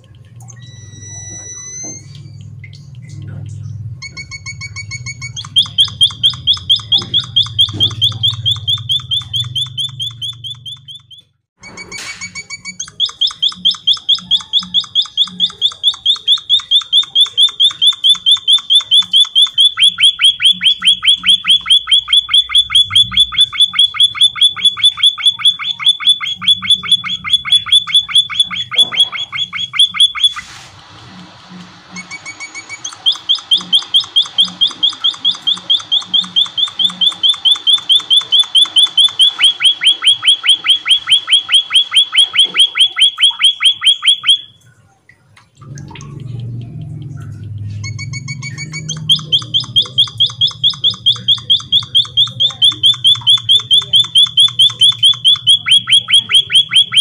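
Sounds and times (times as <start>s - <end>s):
bird chirping fast: 4.3s - 11.3s, 12.8s - 30.5s, 32.2s - 44.6s, 47.1s - 57.0s.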